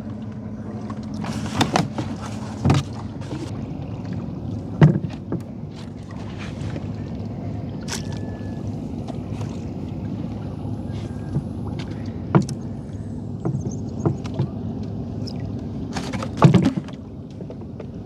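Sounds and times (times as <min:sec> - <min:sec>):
gear knocking on boat: 0:00.0 - 0:15.0, 0:15.8 - 0:18.0
wind: 0:00.0 - 0:18.0.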